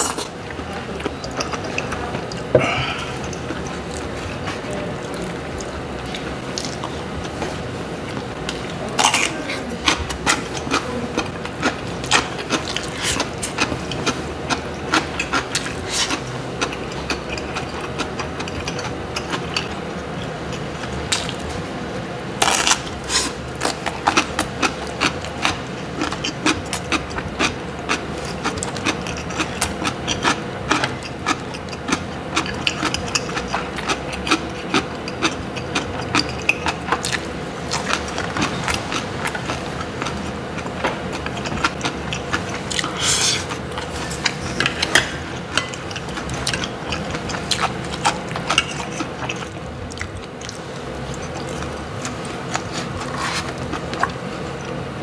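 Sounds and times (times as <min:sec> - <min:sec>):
crunchy wet chewing: 0:00.0 - 0:21.6, 0:22.4 - 0:55.0
steady background noise: 0:00.0 - 0:55.0.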